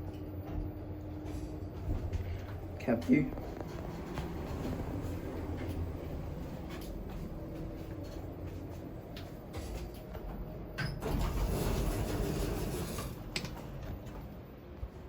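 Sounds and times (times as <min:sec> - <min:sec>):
lift low rumble: 0:00.0 - 0:15.0.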